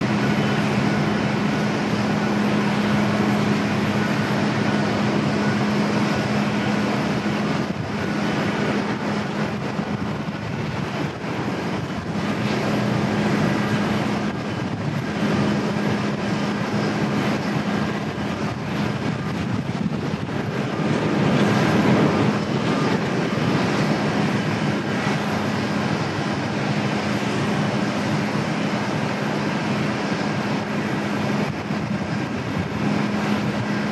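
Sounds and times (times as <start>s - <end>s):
airliner engine roar: 0.0s - 33.9s.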